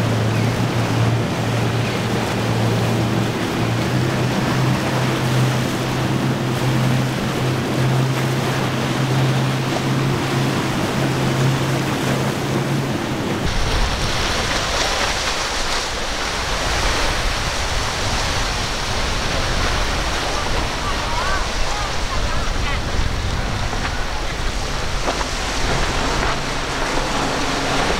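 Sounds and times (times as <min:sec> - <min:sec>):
boat engines droning: 0:00.0 - 0:27.9
hull spray and wake rushing: 0:00.0 - 0:27.9
rushing wind: 0:00.0 - 0:27.9.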